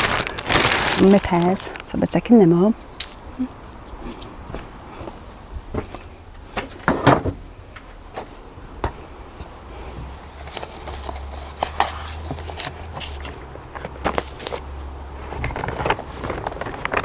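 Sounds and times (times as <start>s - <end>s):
things being handled and moved: 0.0s - 17.0s.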